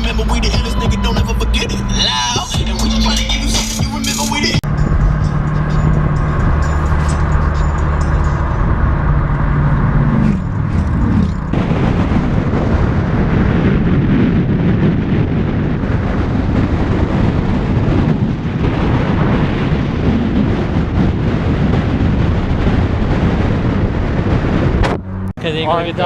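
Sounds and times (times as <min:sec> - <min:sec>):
car engine revving: 0:00.0 - 0:26.0
wind noise: 0:04.5 - 0:26.0.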